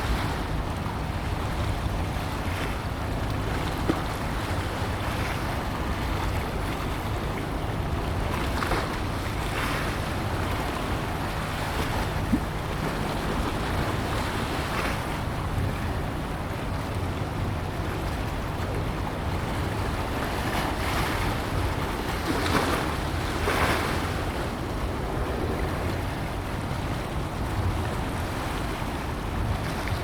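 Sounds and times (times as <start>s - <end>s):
wind on microphone: 0.0s - 30.0s.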